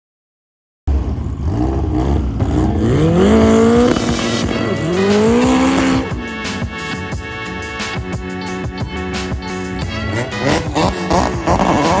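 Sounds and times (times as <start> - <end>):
race car engine accelerating: 0.9 - 12.0.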